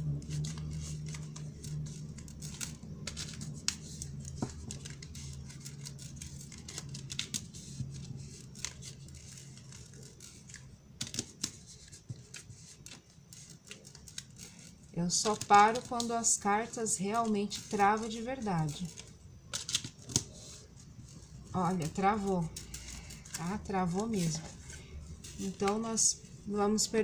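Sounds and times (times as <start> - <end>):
cards being shuffled: 0.0 - 27.0.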